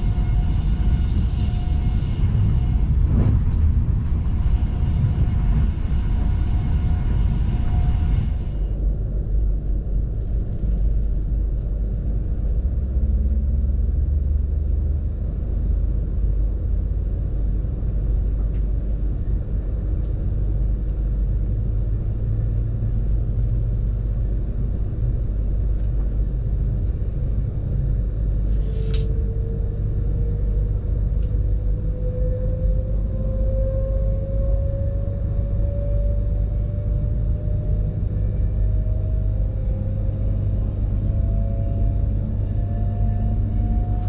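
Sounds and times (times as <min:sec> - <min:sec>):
train running gear rumble: 0:00.0 - 0:44.0.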